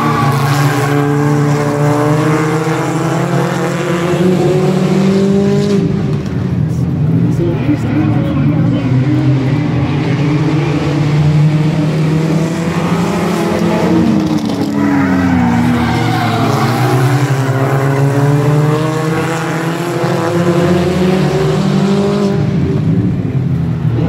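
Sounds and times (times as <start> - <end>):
racing car engines passing: 0.0 - 24.0.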